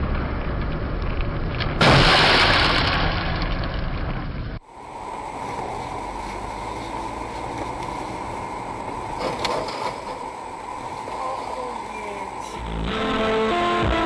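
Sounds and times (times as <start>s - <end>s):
muffled car road and engine noise: 0.0s - 14.0s.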